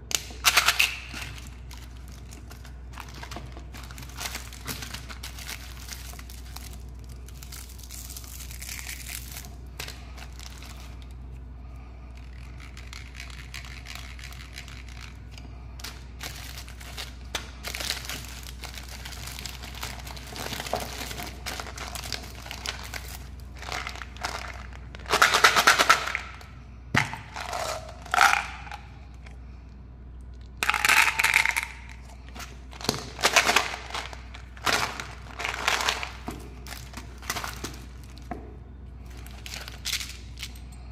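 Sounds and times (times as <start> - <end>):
candy wrappers crinkling: 0.2 - 29.2, 30.3 - 38.4, 39.0 - 40.6.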